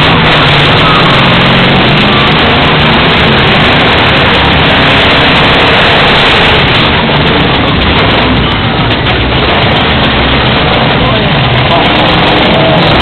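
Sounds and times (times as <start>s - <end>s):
loud truck engine under load: 0.0s - 13.0s.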